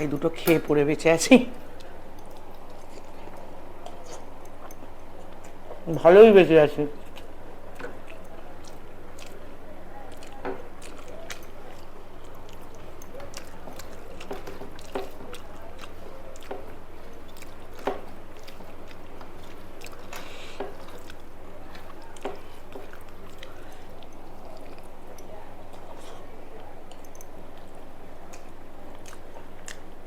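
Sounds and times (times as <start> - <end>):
chewing with wet mouth sounds: 0.0 - 30.0
steady low hum: 0.0 - 30.0.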